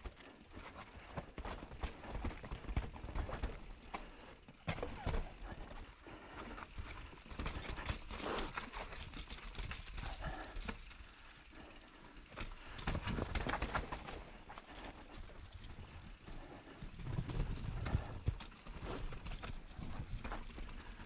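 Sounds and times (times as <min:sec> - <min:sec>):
mountain bike rattling and clicking: 0:00.0 - 0:21.0
tyres on stones and roots: 0:00.0 - 0:21.0.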